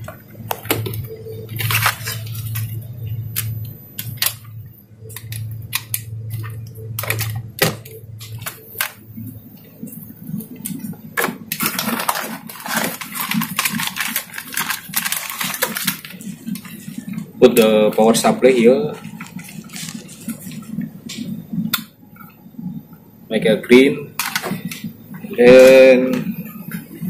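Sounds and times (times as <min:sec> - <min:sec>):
plastic bag crinkling: 0:00.0 - 0:04.5, 0:05.1 - 0:21.0, 0:24.2 - 0:27.0
low steady hum: 0:00.0 - 0:27.0.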